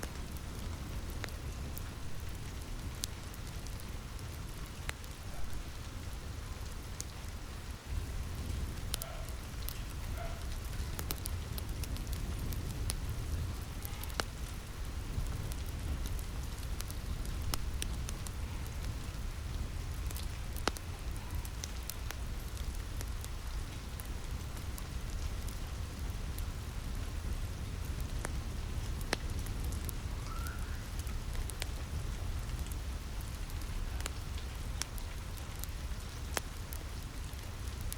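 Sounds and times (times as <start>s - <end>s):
rain on a roof: 0.0s - 37.9s
wood fire crackling: 0.0s - 37.9s.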